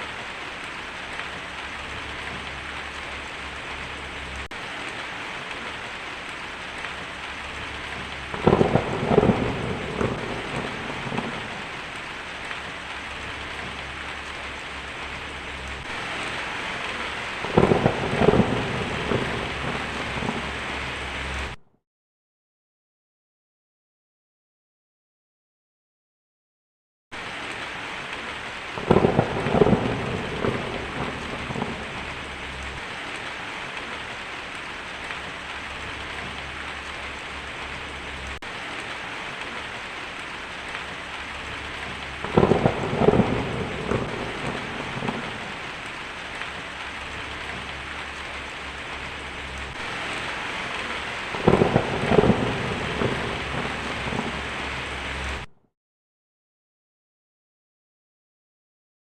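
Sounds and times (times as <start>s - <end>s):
heavy rain on a tin roof: 0.0s - 21.6s, 27.2s - 55.5s
thunder crackling and rumbling: 0.0s - 21.6s, 27.2s - 55.5s.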